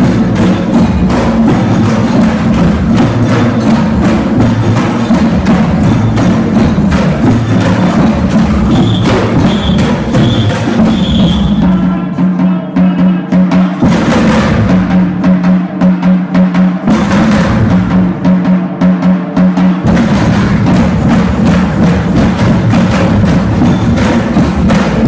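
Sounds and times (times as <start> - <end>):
samba percussion band: 0.0 - 25.0.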